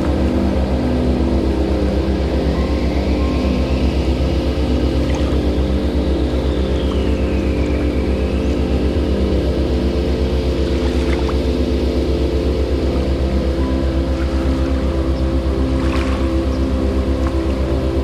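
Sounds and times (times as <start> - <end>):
pulsing ambient drone: 0.0 - 18.0.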